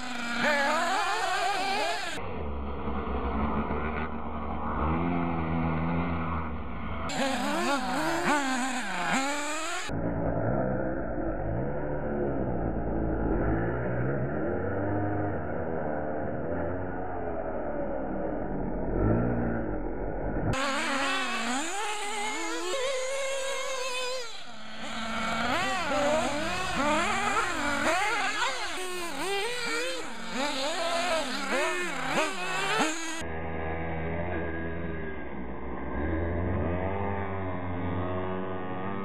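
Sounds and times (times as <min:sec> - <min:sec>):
small nitro engines revving: 0:00.0 - 0:39.0.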